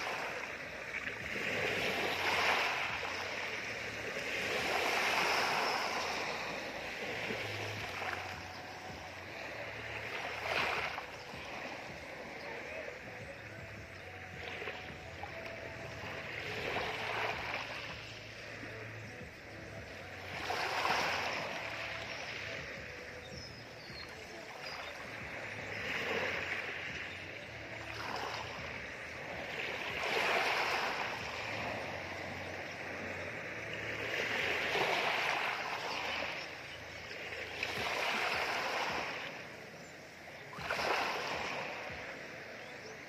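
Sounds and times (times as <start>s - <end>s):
waves washing over pebbles: 0.0s - 43.0s.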